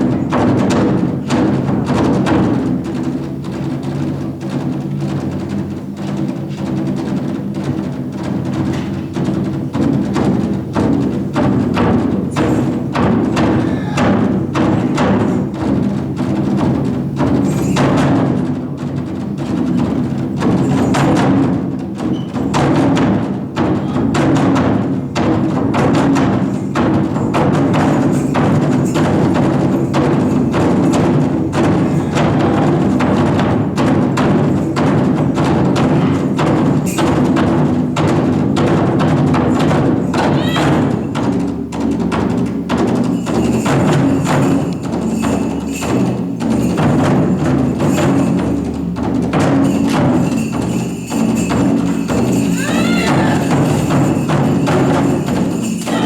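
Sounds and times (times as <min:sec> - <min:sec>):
taiko drums played fast: 0:00.0 - 0:56.0.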